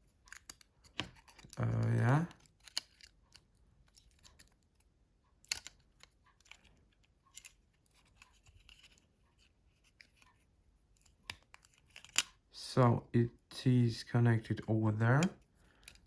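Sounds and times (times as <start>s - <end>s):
light scraping of plastic parts: 0.0s - 12.5s, 14.6s - 16.0s
faint clicks of small parts: 0.0s - 12.6s, 14.5s - 16.0s.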